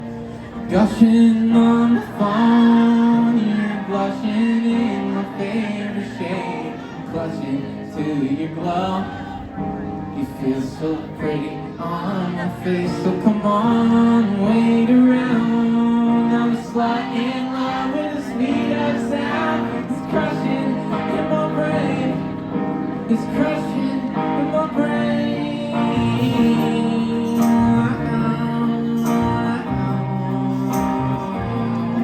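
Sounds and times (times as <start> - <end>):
guitar chords: 0.0 - 32.0
live band playing pop-rock: 0.0 - 32.0
person singing: 0.7 - 32.0.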